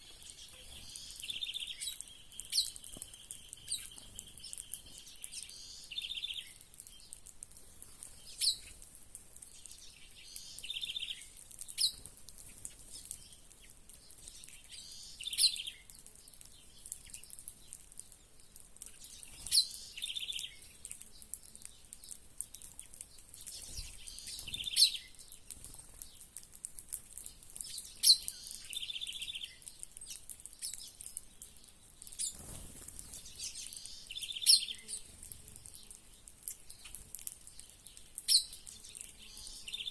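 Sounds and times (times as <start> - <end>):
faint high hiss: 0.0 - 39.9
songbirds chirping and trilling: 0.0 - 39.9.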